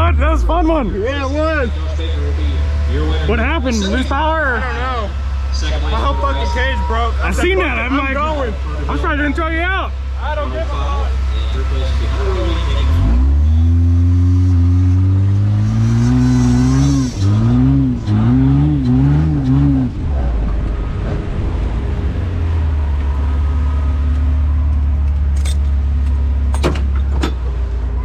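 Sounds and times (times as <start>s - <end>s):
van engine revving: 0.0s - 28.0s.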